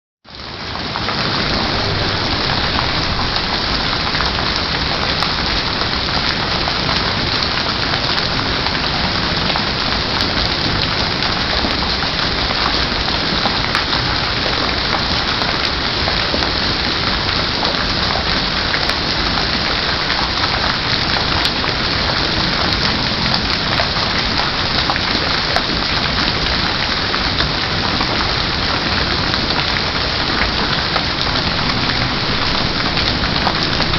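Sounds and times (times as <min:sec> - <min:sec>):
heavy rain pouring: 0:00.3 - 0:33.9.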